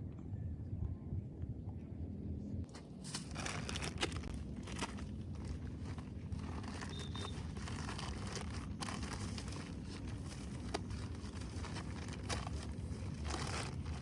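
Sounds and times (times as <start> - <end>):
steady low rumble: 0.0 - 14.0
rustling: 2.7 - 14.0.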